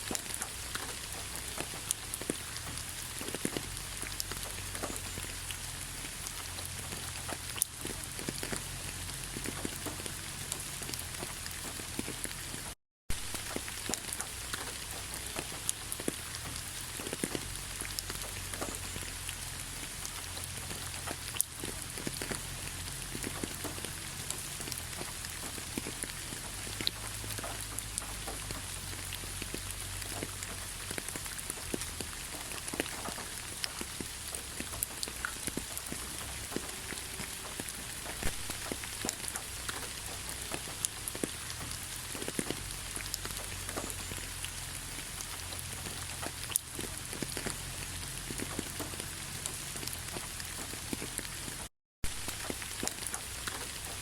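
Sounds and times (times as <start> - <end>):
steady rain with drop hits: 0.0 - 54.0.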